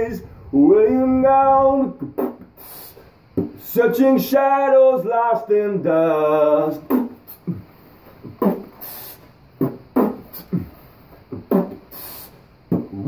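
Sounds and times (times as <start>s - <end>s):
vocal hissing cymbal sounds: 0.0s - 13.0s.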